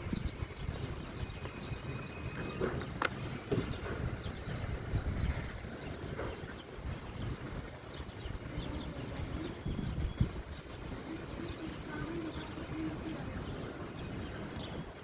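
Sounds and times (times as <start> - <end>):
low wind rumble: 0.0 - 15.0
sparrows chirping faintly: 0.0 - 15.0.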